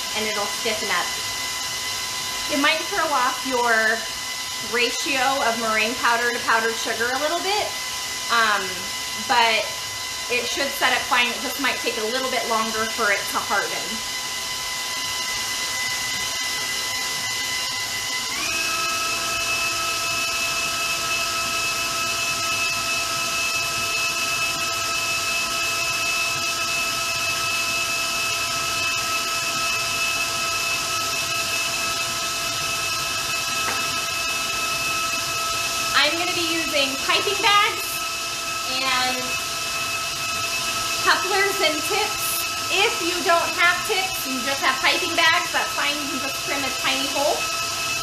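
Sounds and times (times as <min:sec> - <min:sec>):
electric mixer motor whining: 0:00.0 - 0:48.0.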